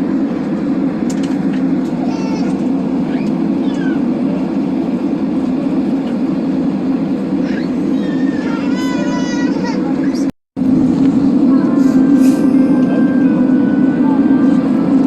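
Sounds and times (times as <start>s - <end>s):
aircraft engine drone in cabin: 0.0s - 15.0s.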